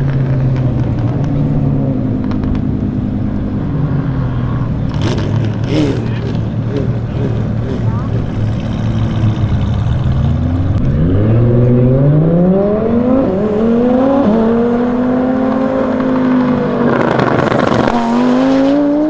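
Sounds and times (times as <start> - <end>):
sports car engine accelerating: 0.0 - 19.0.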